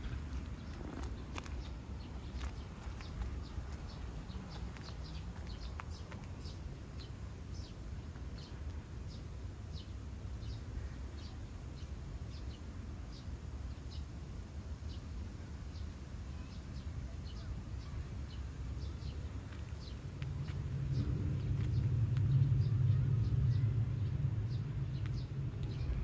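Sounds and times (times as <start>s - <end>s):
small birds chirping: 0.0s - 14.2s, 14.8s - 26.0s
low steady rumble: 0.0s - 26.0s.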